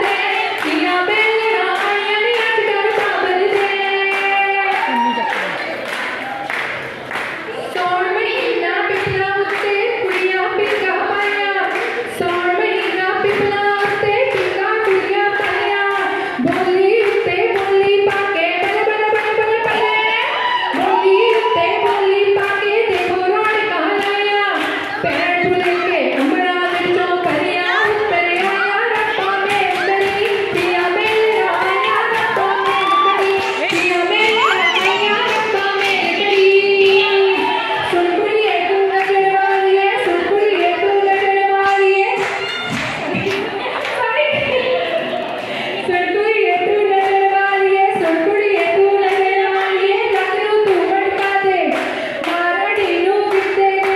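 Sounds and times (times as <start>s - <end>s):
women singing folk song: 0.0s - 5.3s, 7.8s - 53.9s
rhythmic hand clapping: 0.0s - 53.9s.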